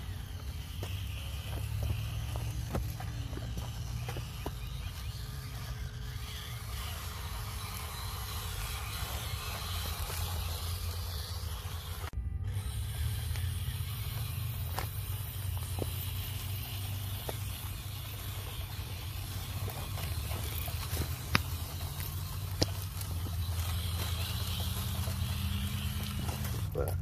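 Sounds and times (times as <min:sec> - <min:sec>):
clicks of tyres on rocks: 0:00.0 - 0:27.0
electric motor and gears running: 0:00.0 - 0:27.0.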